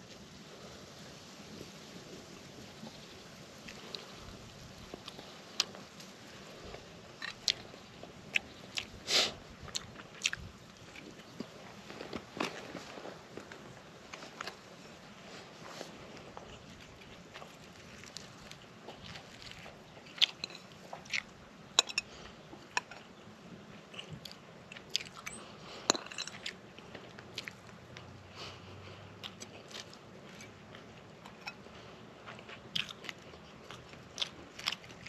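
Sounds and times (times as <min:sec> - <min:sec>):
person chewing crunchy food: 0:03.6 - 0:35.0.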